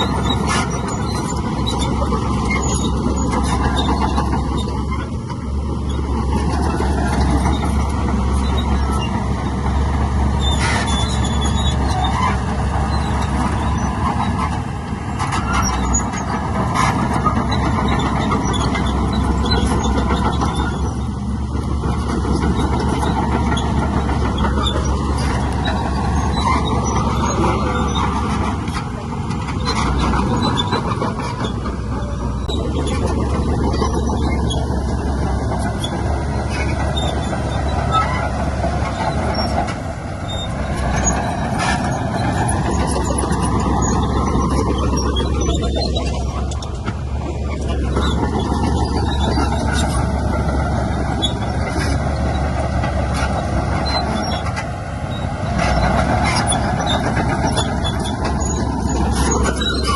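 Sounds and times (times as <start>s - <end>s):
heavy diesel engines under load: 0.0s - 59.9s.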